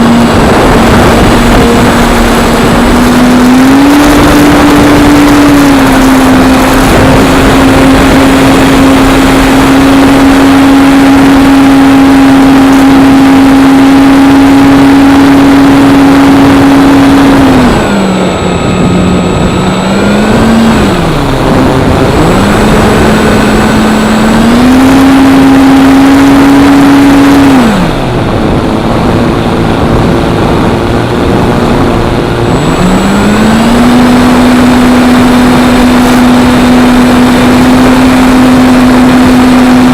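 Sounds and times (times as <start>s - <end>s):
electric model plane motor whining: 0.0s - 39.9s
wind rushing over microphone: 0.0s - 39.9s.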